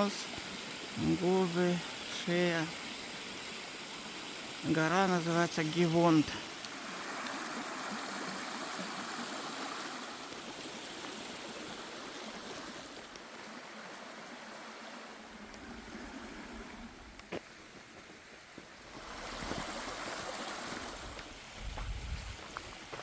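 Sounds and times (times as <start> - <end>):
mountain stream running: 0.0 - 23.0.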